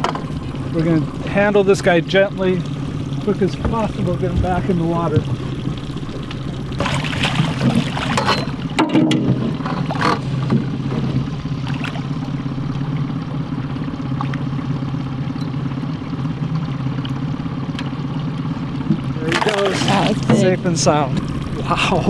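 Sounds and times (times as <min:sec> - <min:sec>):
outboard motor idling: 0:00.0 - 0:22.0
water splashing and sloshing: 0:00.0 - 0:22.0.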